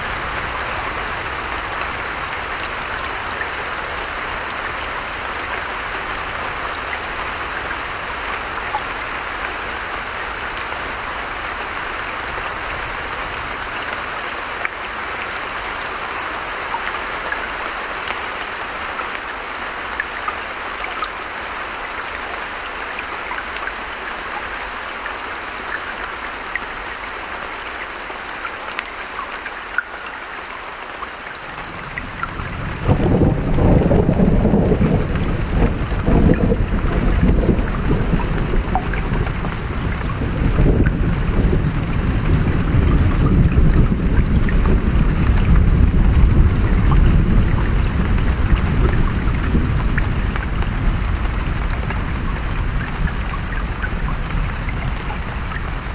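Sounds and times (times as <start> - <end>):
raindrops ticking close by: 0.0 - 55.9
steady rain falling: 0.0 - 55.9.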